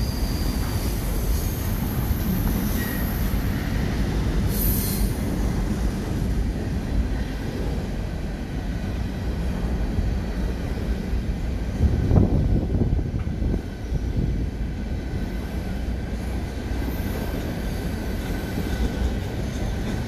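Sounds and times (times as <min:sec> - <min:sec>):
steel wheels rumbling on rail: 0:00.0 - 0:20.0.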